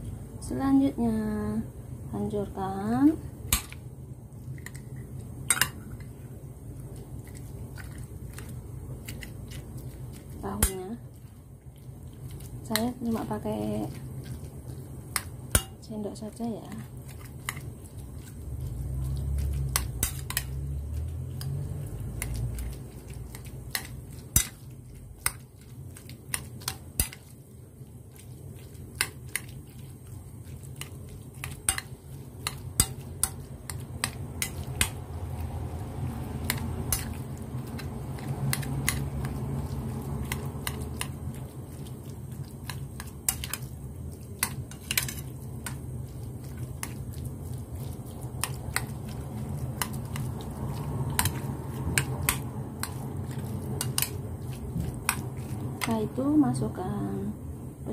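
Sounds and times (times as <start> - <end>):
low steady hum: 0.0 - 57.9.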